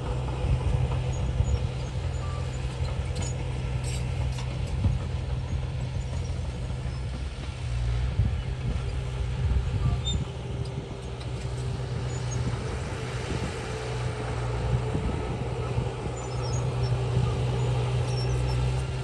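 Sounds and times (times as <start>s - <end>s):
heavy machinery diesel engine: 0.0s - 19.0s.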